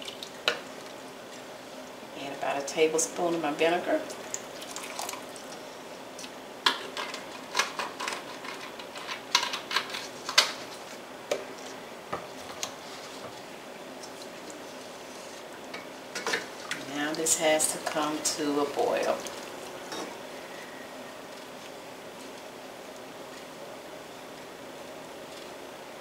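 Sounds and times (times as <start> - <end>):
low steady hiss: 0.0 - 8.3, 9.0 - 26.0.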